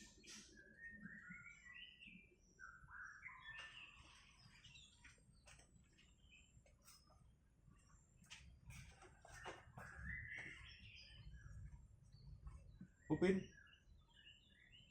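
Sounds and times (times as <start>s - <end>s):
bird chirping: 0.0s - 14.9s.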